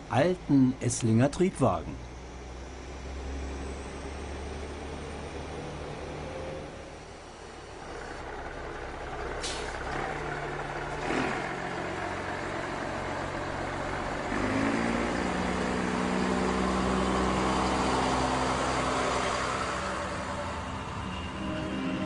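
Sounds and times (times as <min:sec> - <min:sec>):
diesel railcar engine accelerating: 0:00.0 - 0:22.0.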